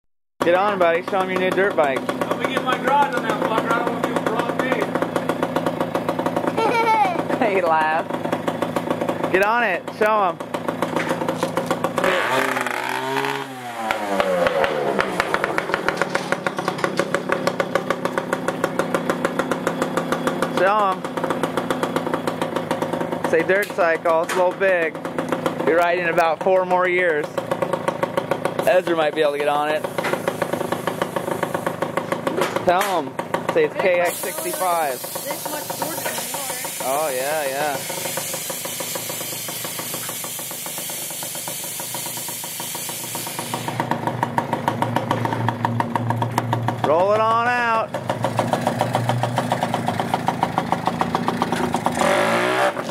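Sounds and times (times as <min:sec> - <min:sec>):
dirt bike engine idling unevenly: 0:00.4 - 0:52.0.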